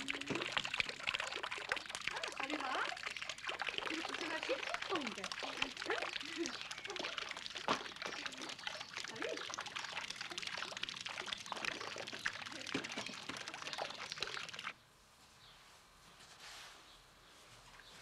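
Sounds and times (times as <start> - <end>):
fountain water splashing: 0.0 - 14.7.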